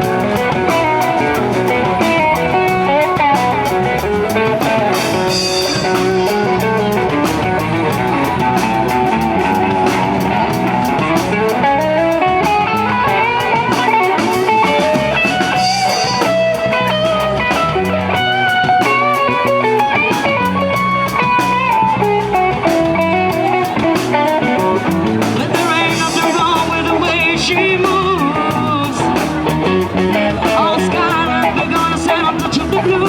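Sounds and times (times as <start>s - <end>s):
bass guitar: 0.0s - 33.0s
drum kit: 0.0s - 33.0s
guitar lead line: 0.0s - 33.0s.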